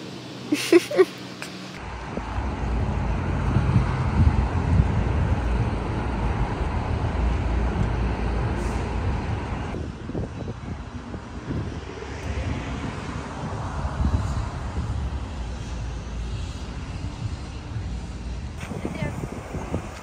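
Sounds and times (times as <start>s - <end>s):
outdoor rushing noise: 0.0s - 20.0s
wind buffeting microphone: 1.8s - 20.0s.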